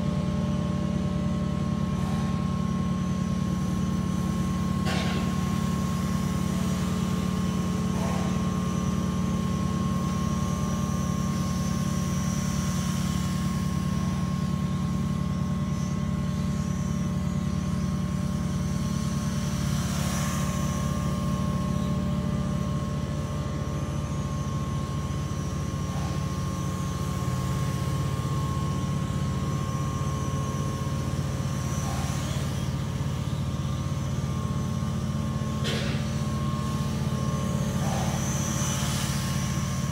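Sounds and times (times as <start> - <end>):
high-pitched whines: 0.0 - 39.9
machinery humming: 0.0 - 39.9.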